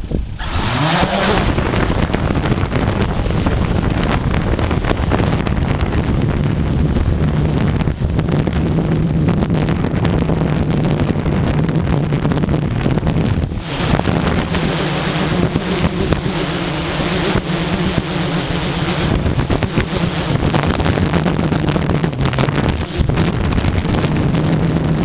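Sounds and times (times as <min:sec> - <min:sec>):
drone propellers humming: 0:00.0 - 0:25.0
thin high whine: 0:00.0 - 0:25.0
wind buffeting microphone: 0:00.0 - 0:25.0.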